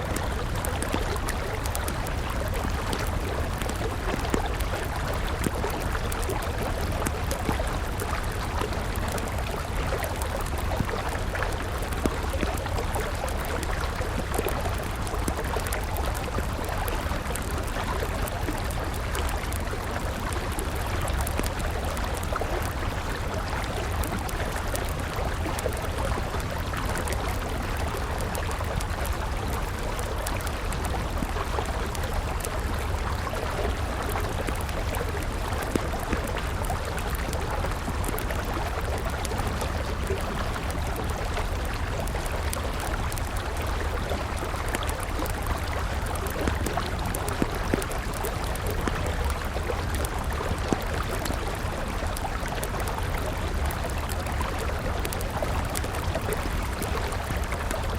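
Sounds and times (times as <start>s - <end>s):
campfire crackling and popping: 0.0s - 57.9s
river flowing: 0.0s - 57.9s.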